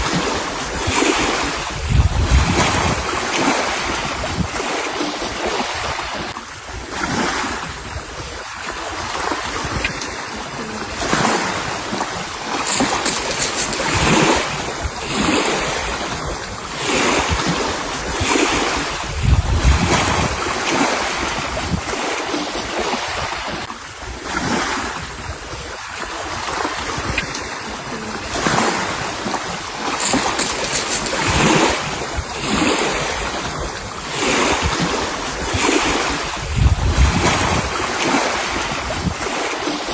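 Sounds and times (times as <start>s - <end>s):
sea waves washing on shore: 0.0s - 39.9s
wind buffeting microphone: 0.0s - 39.9s.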